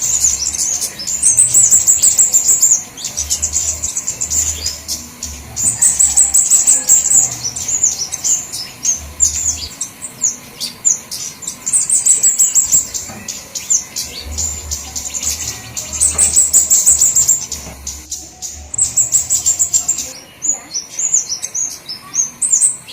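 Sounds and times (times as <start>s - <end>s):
birds chirping and trilling: 0.0s - 22.9s.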